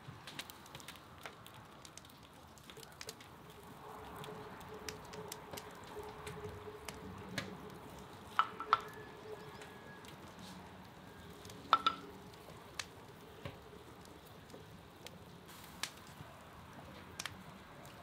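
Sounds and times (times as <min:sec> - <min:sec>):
broth boiling with bubbles popping: 0:00.0 - 0:18.0.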